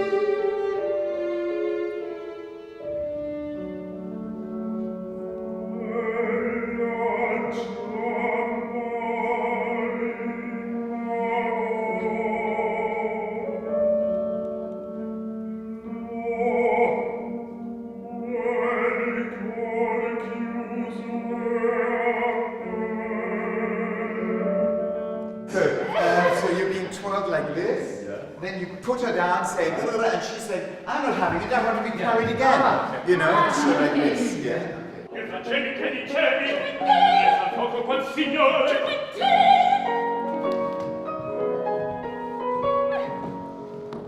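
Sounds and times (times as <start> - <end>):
opera singer: 0.0 - 27.4, 29.1 - 44.0
small instrumental ensemble: 0.0 - 44.0.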